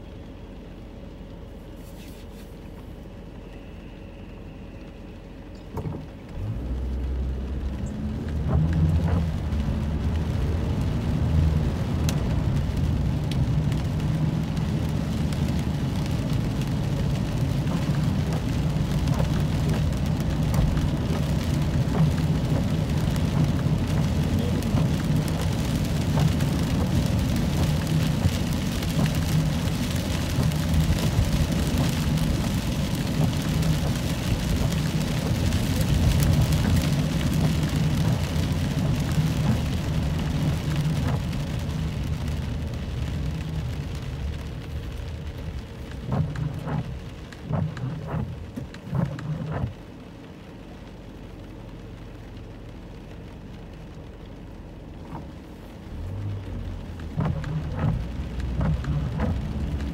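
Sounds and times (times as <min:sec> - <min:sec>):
car engine: 0:00.0 - 0:59.9
rain pattering on windshield: 0:00.0 - 0:59.9
tyres on wet road: 0:00.0 - 0:59.9.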